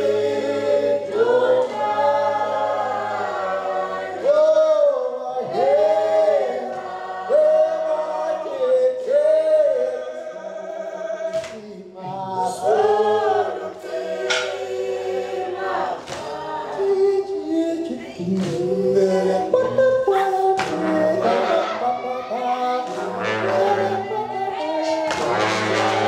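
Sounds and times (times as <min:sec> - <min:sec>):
choir singing in harmony: 0:00.0 - 0:26.0.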